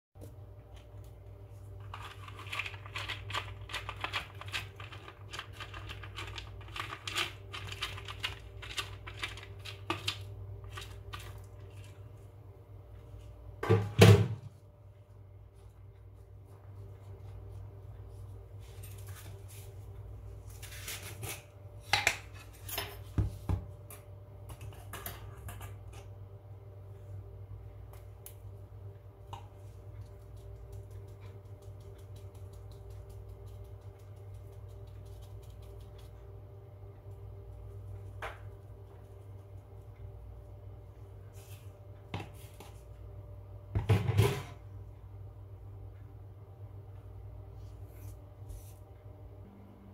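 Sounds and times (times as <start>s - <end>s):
low steady hum: 0.2s - 49.9s.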